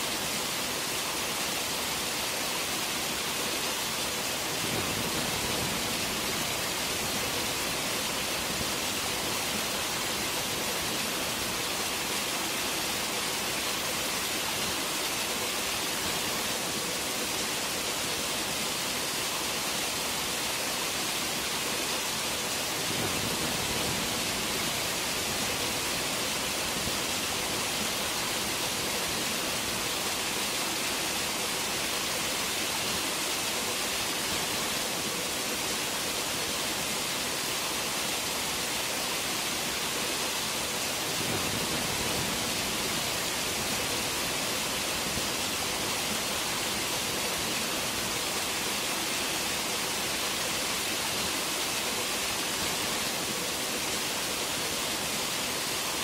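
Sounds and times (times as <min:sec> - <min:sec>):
waterfall rushing hiss: 0:00.0 - 0:56.0.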